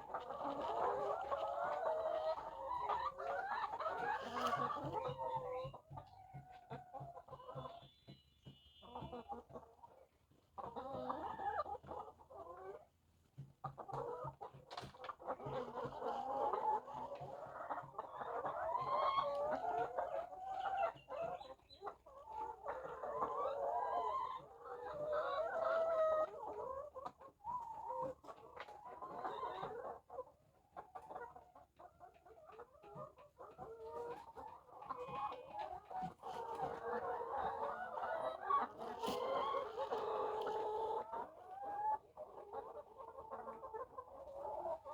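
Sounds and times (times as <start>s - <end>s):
hens clucking: 0.0s - 44.9s.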